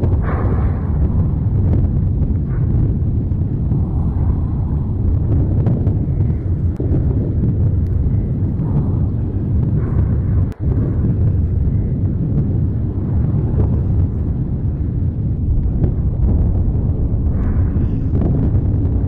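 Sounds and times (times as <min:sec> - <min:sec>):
lava fountain deep rumble: 0:00.0 - 0:19.0.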